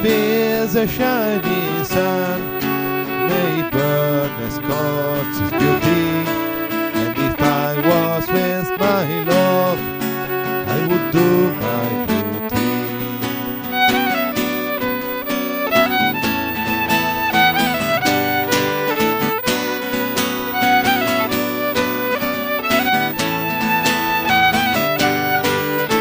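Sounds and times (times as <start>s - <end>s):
fiddle playing a melody: 0.0s - 26.0s
guitar accompaniment: 0.0s - 26.0s.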